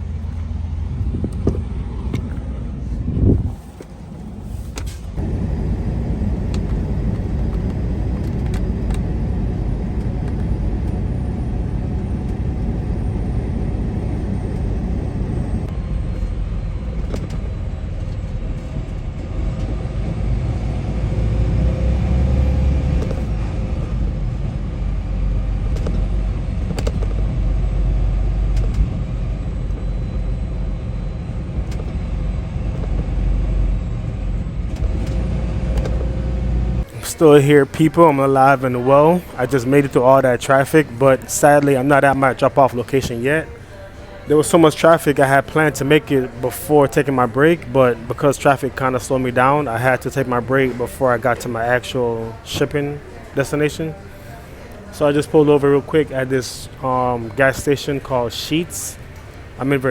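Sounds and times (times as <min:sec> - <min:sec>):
truck road and engine rumble: 0:00.0 - 0:59.9.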